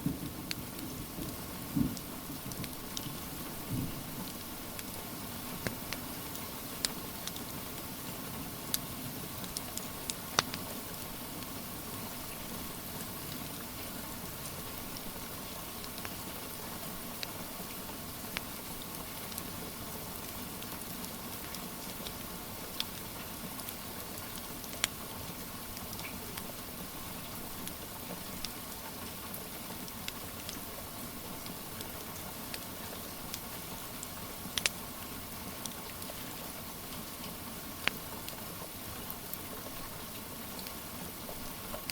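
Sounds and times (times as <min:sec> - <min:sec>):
rain hiss: 0:00.0 - 0:41.9
wood fire crackling and popping: 0:00.2 - 0:05.0, 0:05.6 - 0:08.0, 0:09.4 - 0:11.5, 0:12.1 - 0:19.5, 0:20.1 - 0:30.7, 0:31.3 - 0:39.9, 0:40.5 - 0:41.9.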